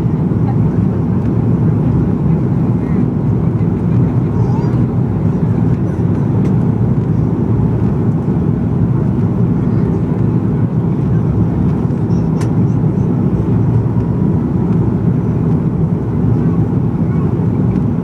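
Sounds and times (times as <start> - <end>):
aircraft cabin engine noise: 0.0 - 18.0.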